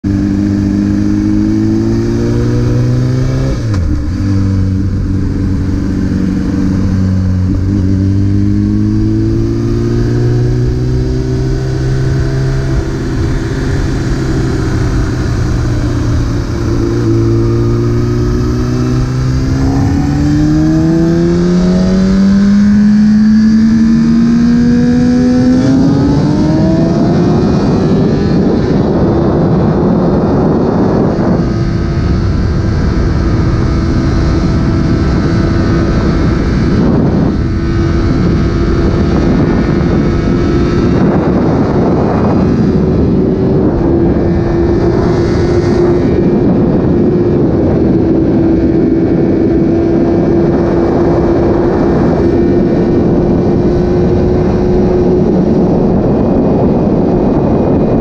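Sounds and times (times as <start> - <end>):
motorcycle engine under way: 0.0 - 58.0
wind noise: 0.0 - 58.0.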